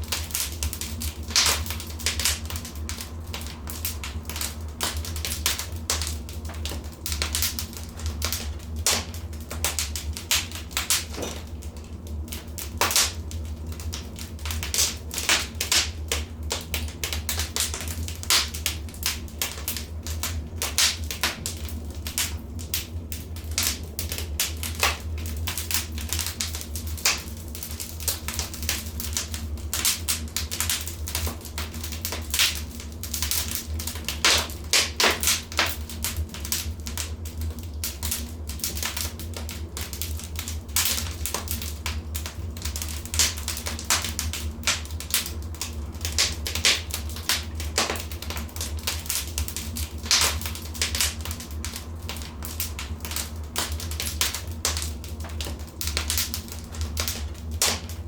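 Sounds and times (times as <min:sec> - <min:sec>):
low fire rumble: 0:00.0 - 0:58.0
wood fire crackling: 0:00.0 - 0:58.0.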